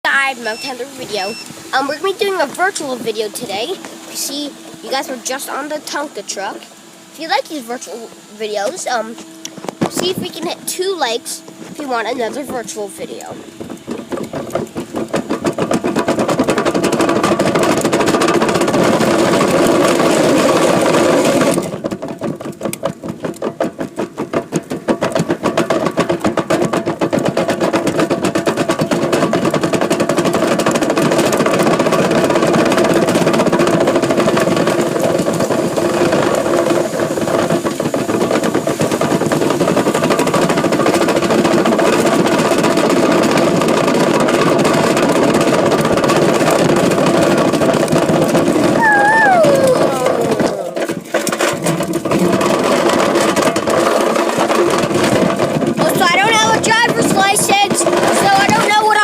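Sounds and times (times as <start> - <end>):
truck engine pulsing: 0.0 - 59.0.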